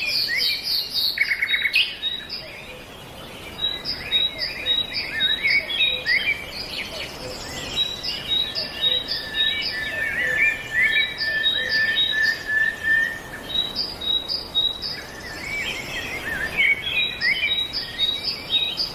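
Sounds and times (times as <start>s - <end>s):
birds singing and twittering: 0.0s - 18.9s.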